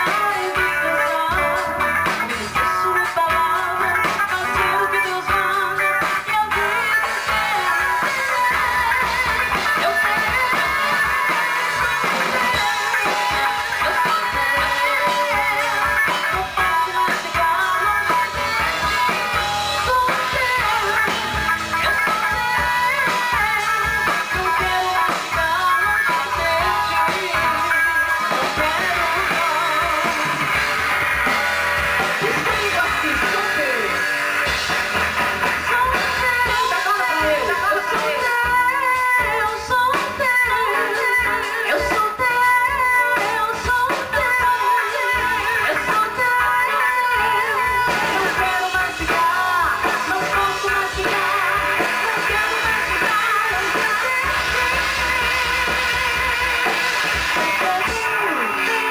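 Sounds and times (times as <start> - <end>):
drum kit: 0.0 - 58.9
guitars: 0.0 - 58.9
live band playing worship song: 0.0 - 58.9.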